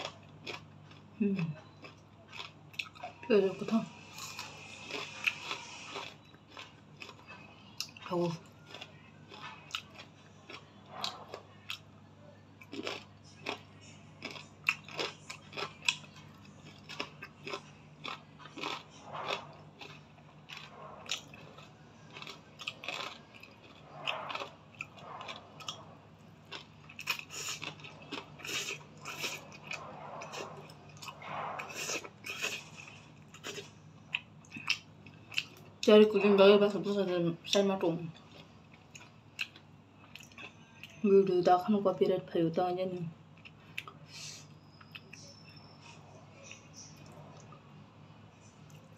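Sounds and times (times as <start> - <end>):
person chewing noodles: 0.0 - 3.2, 4.0 - 11.9, 12.6 - 35.8, 38.2 - 41.0, 43.3 - 47.6.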